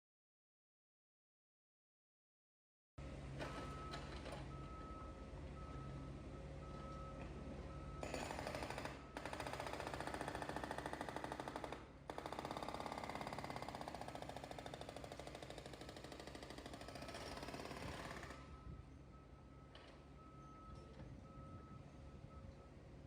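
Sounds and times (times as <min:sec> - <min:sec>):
excavator engine running: 0:03.0 - 0:23.0.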